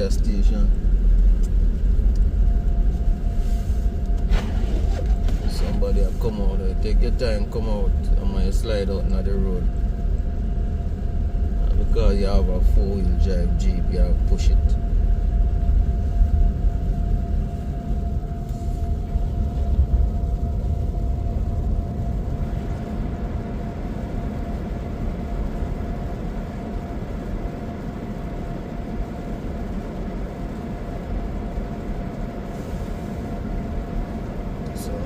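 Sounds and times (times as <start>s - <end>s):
faint steady whine: 0.0s - 35.0s
road and engine rumble in a car: 0.0s - 35.0s.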